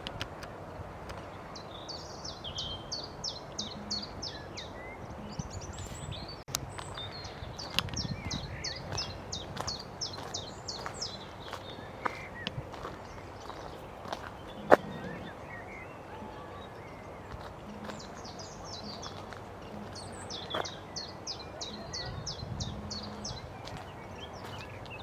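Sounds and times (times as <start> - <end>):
outdoor background noise: 0.0 - 25.0
songbird singing: 0.0 - 25.0.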